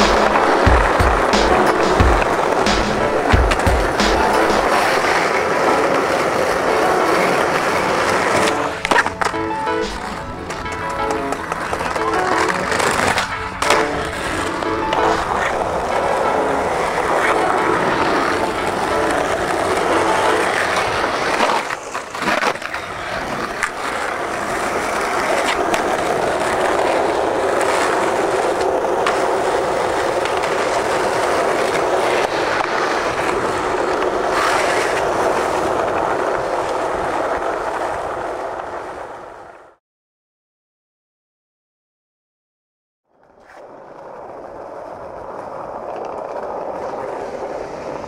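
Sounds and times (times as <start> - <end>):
skateboard clacks: 0.0 - 39.6, 43.2 - 48.0
skateboard wheels rolling on asphalt: 0.0 - 39.8, 43.1 - 48.0.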